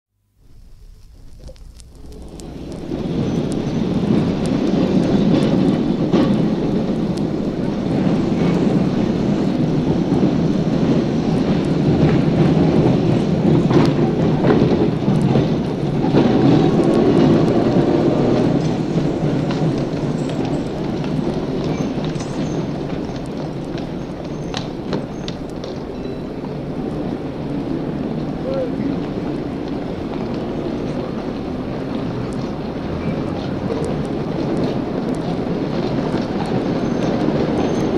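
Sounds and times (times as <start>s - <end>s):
trams rumbling on rails: 0.4s - 37.9s.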